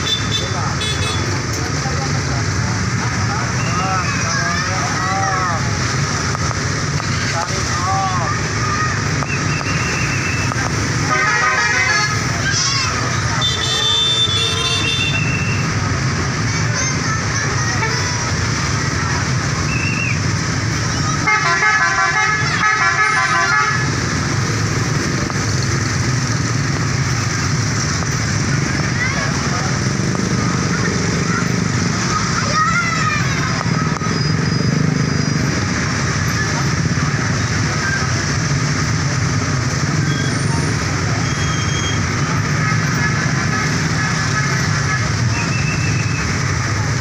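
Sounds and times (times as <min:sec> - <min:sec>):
engine and traffic rumble: 0:00.0 - 0:47.0
road noise: 0:00.0 - 0:47.0.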